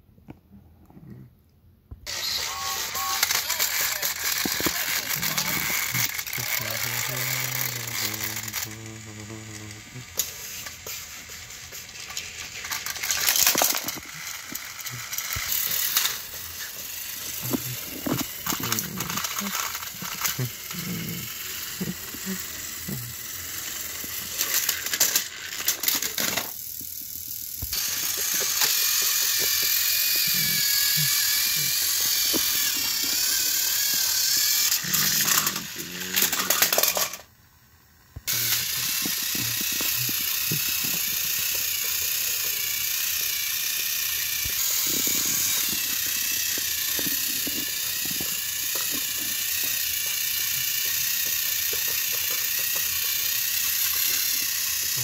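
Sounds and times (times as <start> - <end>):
toy train motor whir: 2.0 - 55.0
toy wheels rattling: 2.1 - 37.3, 38.3 - 55.0.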